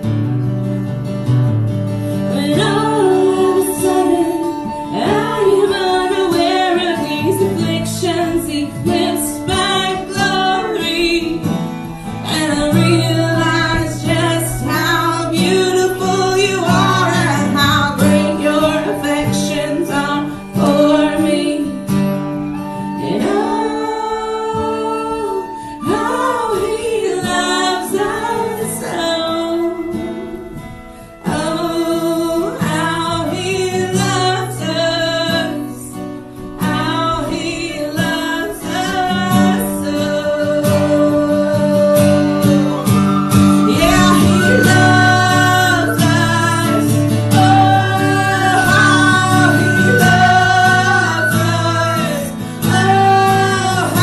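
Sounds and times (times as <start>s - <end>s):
guitar accompaniment: 0.0s - 54.0s
person singing: 2.1s - 54.0s.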